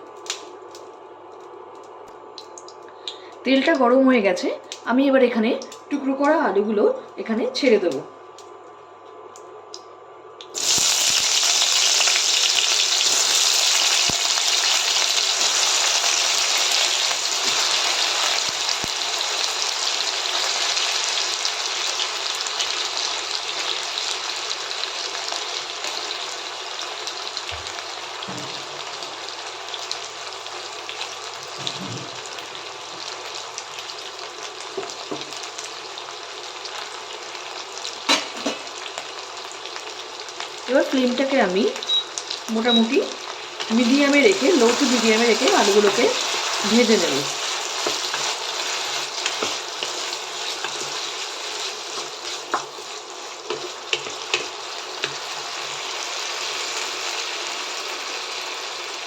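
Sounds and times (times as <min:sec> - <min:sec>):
potatoes sizzling in hot oil: 0:10.6 - 0:59.0.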